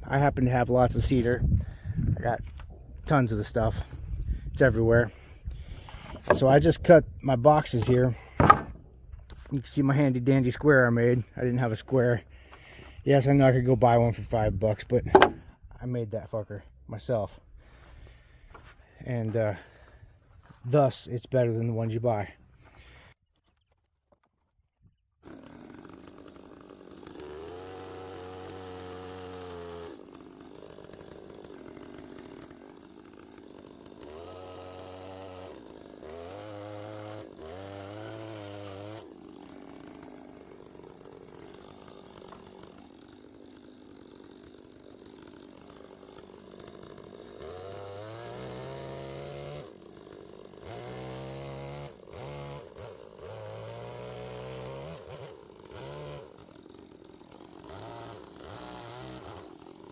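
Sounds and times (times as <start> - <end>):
chainsaw revving: 0.0 - 15.5, 16.6 - 20.6, 25.2 - 59.9.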